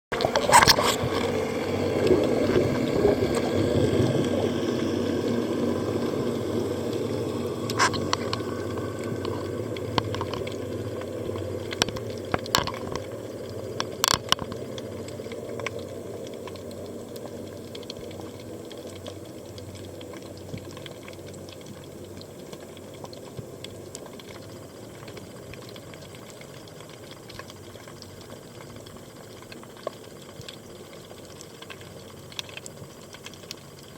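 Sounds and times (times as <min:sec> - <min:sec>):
muffled underwater water noise: 0:00.1 - 0:33.9.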